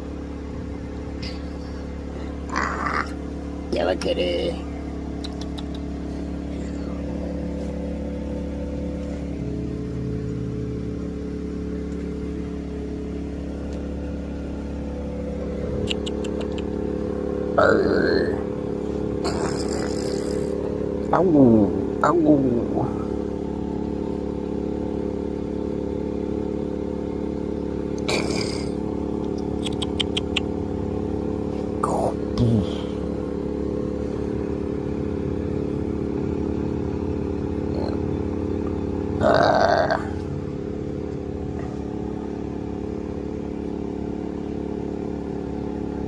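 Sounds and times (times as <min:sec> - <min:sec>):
steady motor drone: 0:00.0 - 0:46.0.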